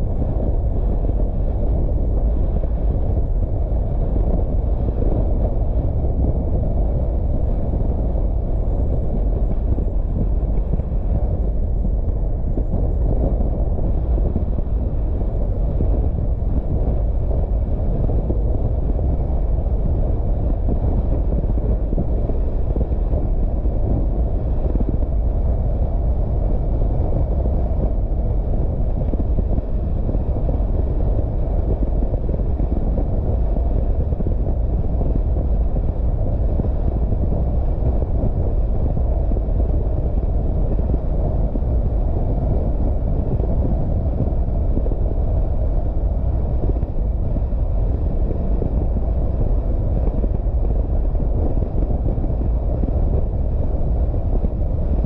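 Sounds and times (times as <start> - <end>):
wind on microphone: 0.0 - 55.0.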